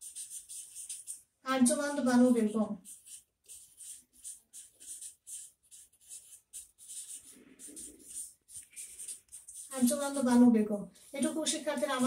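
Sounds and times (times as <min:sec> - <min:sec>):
marker pen scratching on paper: 0:00.0 - 0:12.0.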